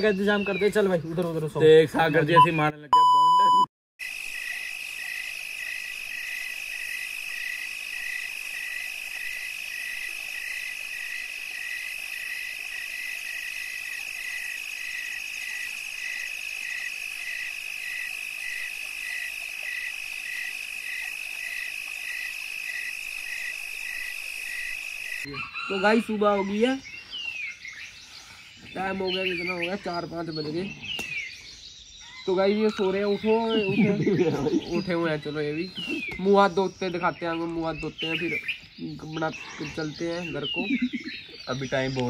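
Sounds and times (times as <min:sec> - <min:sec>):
frogs pulsing call: 0:04.0 - 0:42.0
insects trilling: 0:04.0 - 0:42.0.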